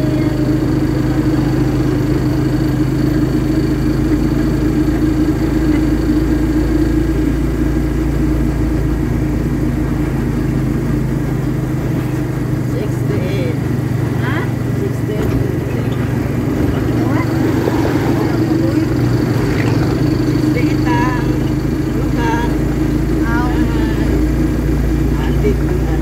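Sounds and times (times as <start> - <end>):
vehicle engine and tyres droning: 0.0 - 26.0.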